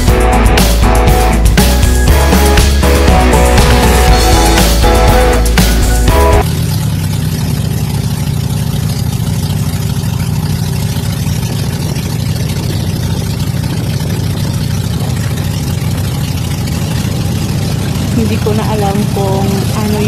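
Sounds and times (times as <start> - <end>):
boat engine running: 0.0 - 20.0
water rushing: 0.0 - 20.0.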